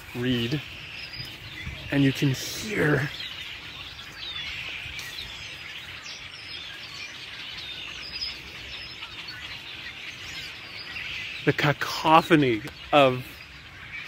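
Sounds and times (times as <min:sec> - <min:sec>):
flock of songbirds chirping: 0:00.0 - 0:14.0.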